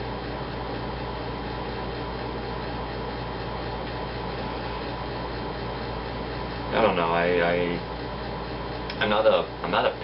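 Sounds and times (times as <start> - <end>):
air conditioner running: 0.0 - 10.0.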